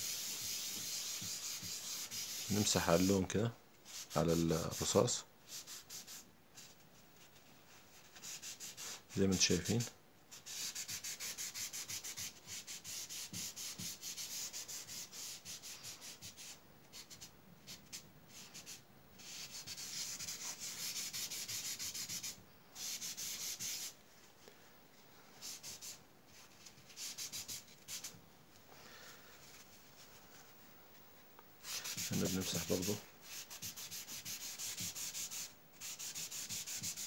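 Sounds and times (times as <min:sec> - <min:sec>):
tissue rubbing on paper: 0:00.0 - 0:03.2, 0:03.9 - 0:24.0, 0:25.3 - 0:28.1, 0:28.9 - 0:30.6, 0:31.6 - 0:37.0.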